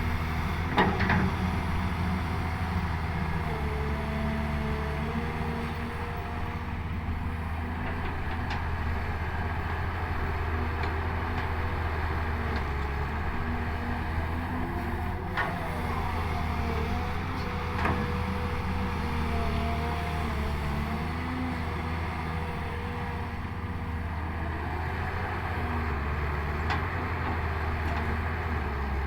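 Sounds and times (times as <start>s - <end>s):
diesel engine drone: 0.0s - 29.0s.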